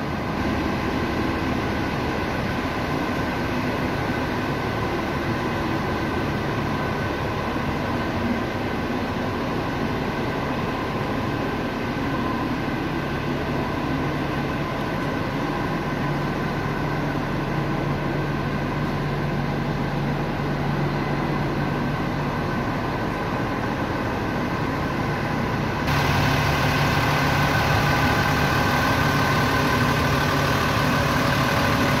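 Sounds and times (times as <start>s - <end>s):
coach engine idling: 0.0s - 32.0s.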